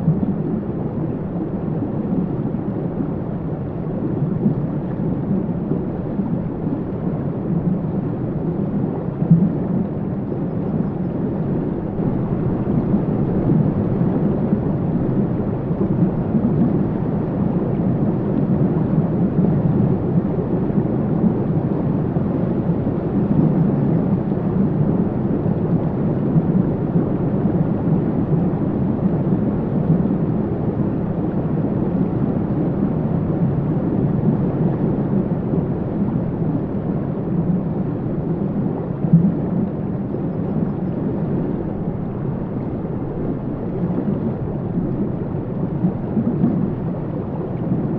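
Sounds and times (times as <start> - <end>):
muffled underwater stream rumble: 0.0 - 47.9.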